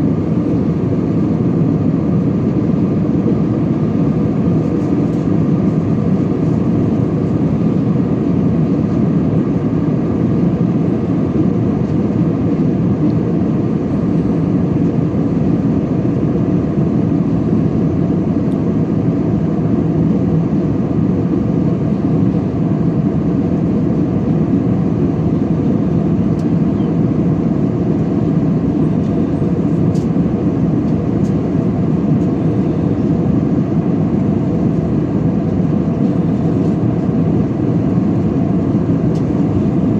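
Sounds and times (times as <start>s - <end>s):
airplane cabin engine rush: 0.0s - 39.9s.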